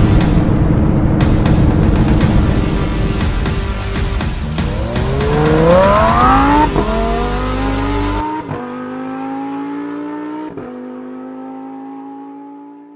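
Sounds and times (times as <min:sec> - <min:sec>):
road and wind noise: 0:00.0 - 0:12.9
sports car engine accelerating: 0:00.0 - 0:12.9.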